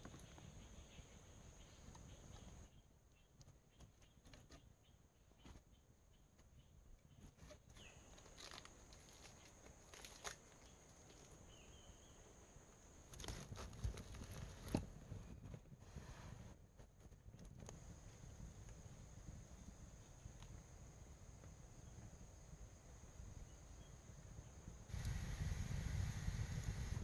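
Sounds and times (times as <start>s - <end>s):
forest ambience: 0.0s - 16.6s, 17.7s - 27.0s.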